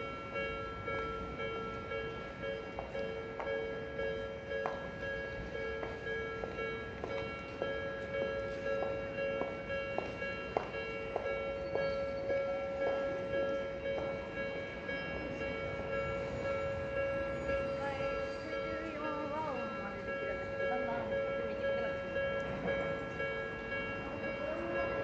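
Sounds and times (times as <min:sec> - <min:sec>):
level-crossing alarm ringing: 0:00.0 - 0:25.0.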